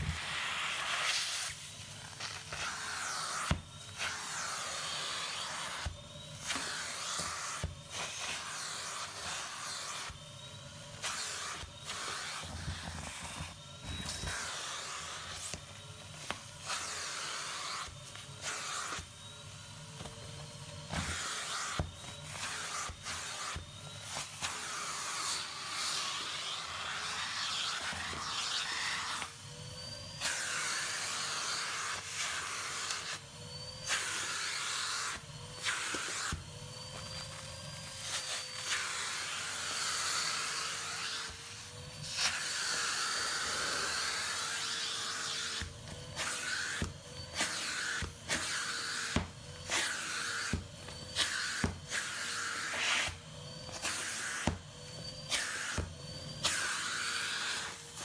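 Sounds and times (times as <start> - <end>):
vacuum cleaner suction: 0.0 - 58.0.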